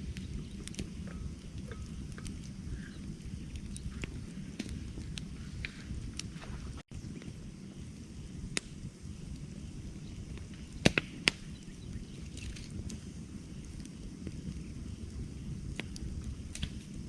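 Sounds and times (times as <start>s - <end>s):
campfire burning with crackling pops: 0.0s - 17.0s.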